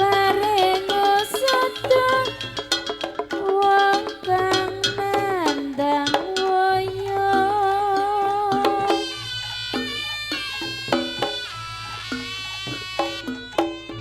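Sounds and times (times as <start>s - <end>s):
hand-drum strokes: 0.0s - 14.0s
held melody with vibrato: 0.0s - 14.0s.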